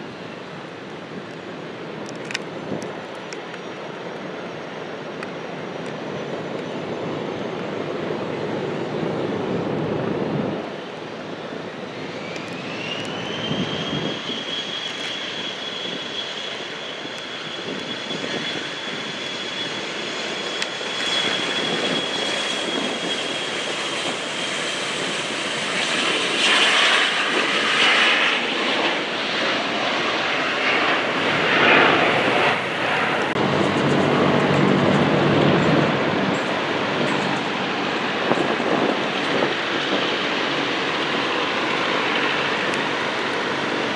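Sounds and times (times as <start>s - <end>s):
airplane engines whining: 0.0s - 43.9s.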